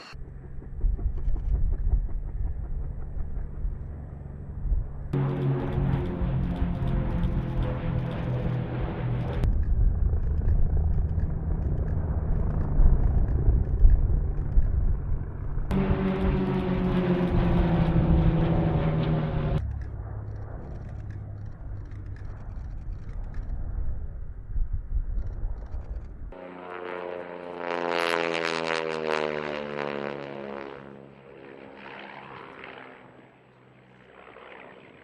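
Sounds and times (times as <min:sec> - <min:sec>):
jet engine rumble: 0:00.0 - 0:35.0
jet engine whine: 0:00.0 - 0:35.0.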